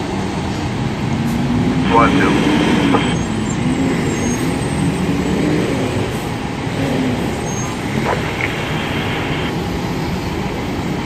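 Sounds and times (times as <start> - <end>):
heavy vehicle engine and road rumble: 0.0 - 11.0.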